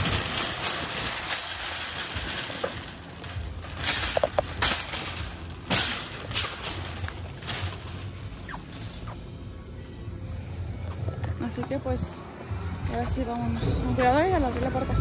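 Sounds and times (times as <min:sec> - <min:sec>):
metal shopping cart rattling: 0:00.0 - 0:10.5, 0:11.4 - 0:15.0.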